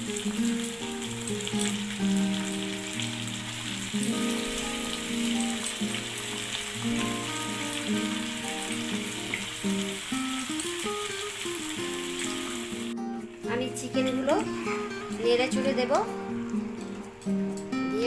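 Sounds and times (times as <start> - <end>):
background music: 0.0 - 18.0
chicken sizzling in oil: 0.0 - 18.0.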